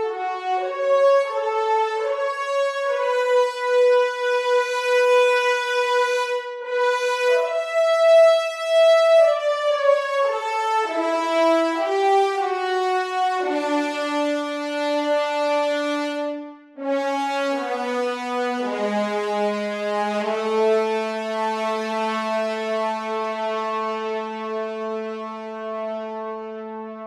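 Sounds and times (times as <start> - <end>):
french horns sustained notes: 0.0 - 27.0.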